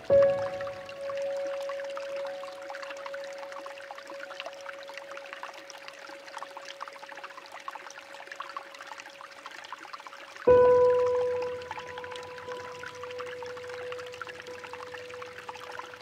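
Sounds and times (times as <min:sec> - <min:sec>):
soft held musical tone: 0:00.0 - 0:09.6, 0:10.4 - 0:16.0
water trickling: 0:00.0 - 0:16.0.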